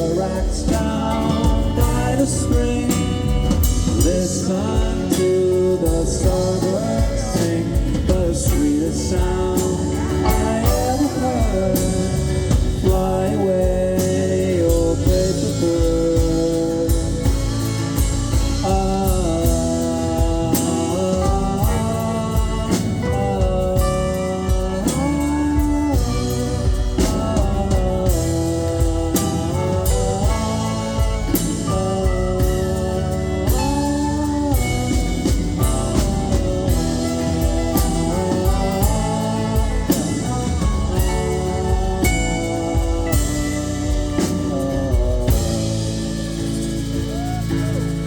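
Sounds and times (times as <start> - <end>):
guitar: 0.0 - 48.0
steady drum beat: 0.0 - 48.0.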